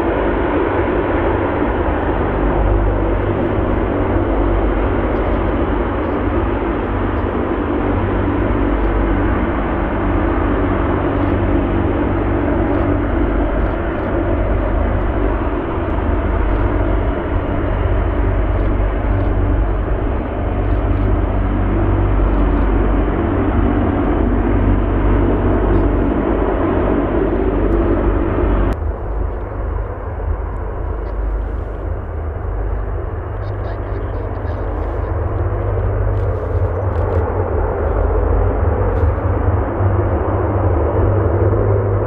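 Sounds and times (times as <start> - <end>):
jet airliner engines running: 0.0 - 42.0.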